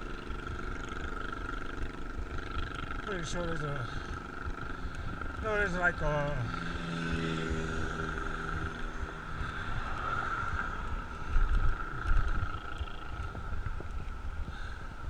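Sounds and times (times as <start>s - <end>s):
passing traffic engine hum: 0.0s - 14.4s
road and tyre hum: 0.0s - 15.0s
wind buffeting microphone: 0.0s - 15.0s.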